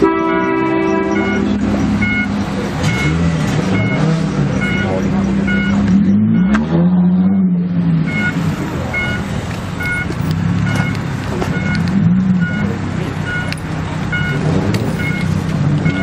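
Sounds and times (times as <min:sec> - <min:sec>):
short beeps: 0:00.0 - 0:11.8, 0:12.4 - 0:16.0
car exhaust rumbling: 0:00.0 - 0:16.0.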